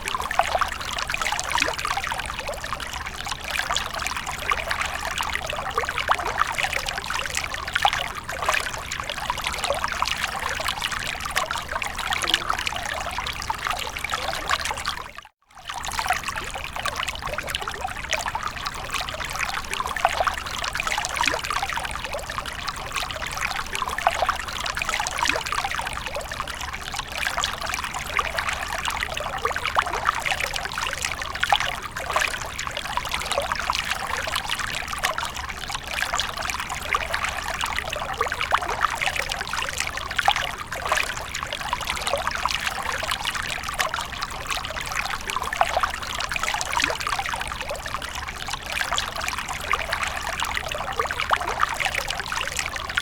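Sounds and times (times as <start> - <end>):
fountain water trickling and splashing: 0.0 - 53.0.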